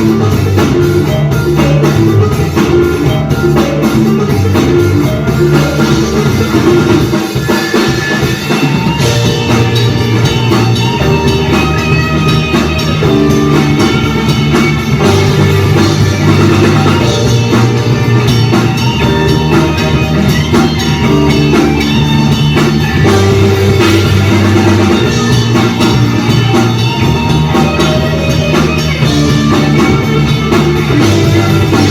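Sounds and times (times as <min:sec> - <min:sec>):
drum kit: 0:00.0 - 0:31.9
guitar: 0:00.0 - 0:31.9
rock band playing live: 0:00.0 - 0:31.9.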